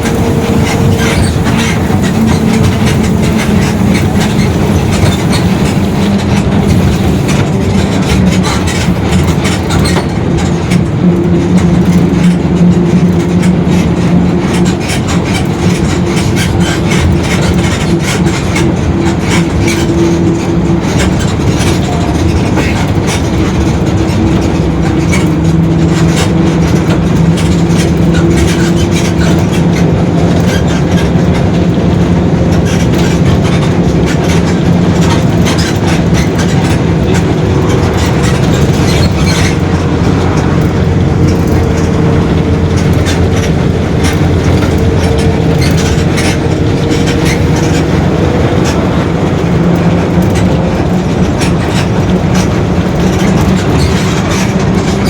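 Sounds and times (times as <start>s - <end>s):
diesel bus engine running: 0.0s - 55.0s
low differential drone: 0.0s - 55.0s
rattles: 0.0s - 55.0s.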